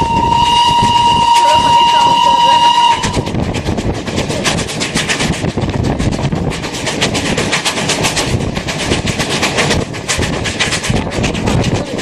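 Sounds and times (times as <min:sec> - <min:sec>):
steam locomotive chuffing: 0:00.0 - 0:12.0
train wheels clattering on rails: 0:00.0 - 0:12.0.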